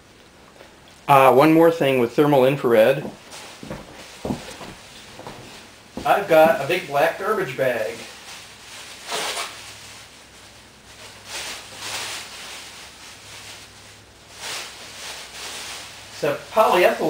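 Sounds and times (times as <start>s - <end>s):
plastic bag rustling and crinkling: 2.8s - 17.0s.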